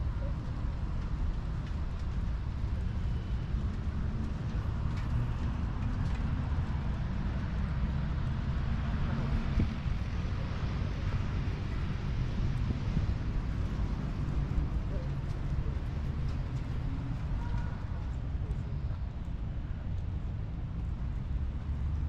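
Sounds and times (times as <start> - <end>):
rain on wet paving: 0.0 - 22.0.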